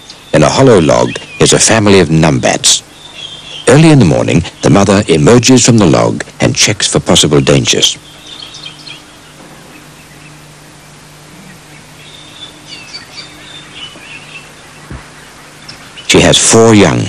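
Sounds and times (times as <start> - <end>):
birds chirping: 0.0 - 17.0
faint low hum: 0.0 - 17.0.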